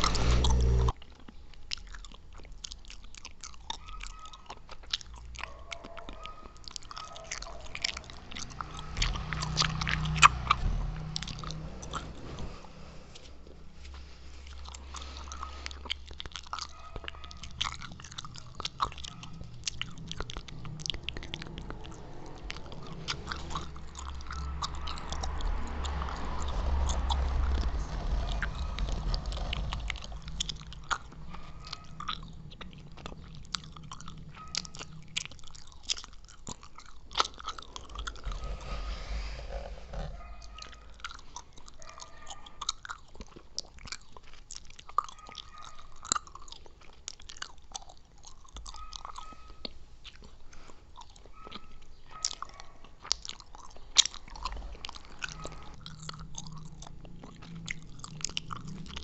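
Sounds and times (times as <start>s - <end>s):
person chewing gum: 0.0s - 59.0s.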